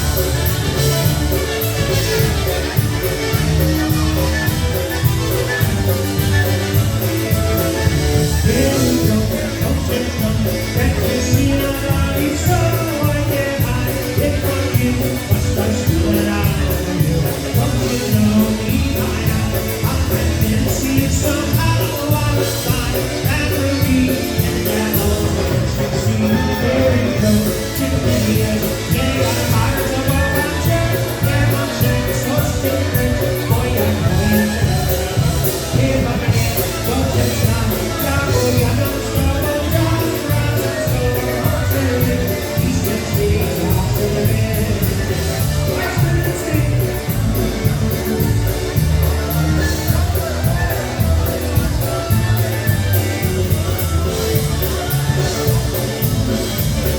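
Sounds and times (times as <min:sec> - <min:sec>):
person singing: 0:00.0 - 0:56.9
polka band playing: 0:00.0 - 0:56.9.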